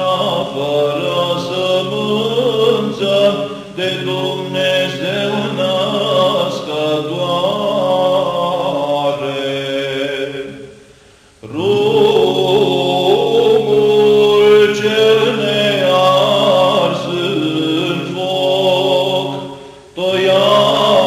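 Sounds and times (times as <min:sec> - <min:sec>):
chant melody sung: 0:00.0 - 0:21.0
held vocal drone: 0:00.0 - 0:21.0.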